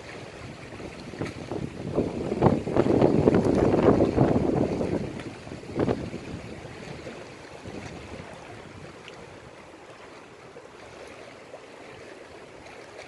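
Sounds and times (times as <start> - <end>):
small waves washing over stones: 0.0 - 13.0.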